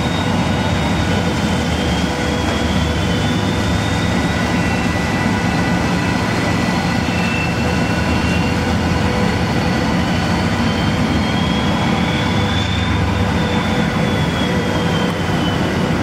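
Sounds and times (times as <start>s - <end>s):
ferry engines running: 0.0s - 16.0s
high whine: 0.0s - 16.0s.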